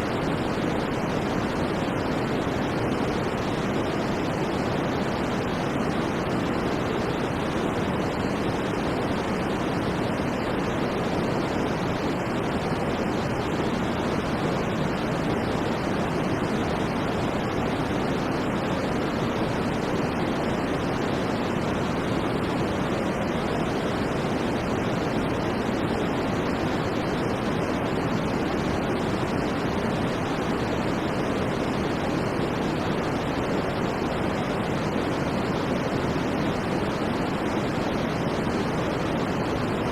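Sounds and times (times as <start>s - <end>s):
electronic white noise hiss: 0.0s - 39.9s.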